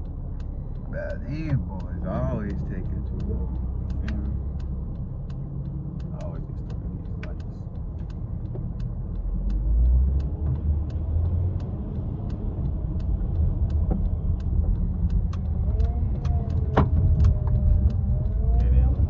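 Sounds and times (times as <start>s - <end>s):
car engine low rumble: 0.0s - 19.0s
light ticking: 0.0s - 19.0s.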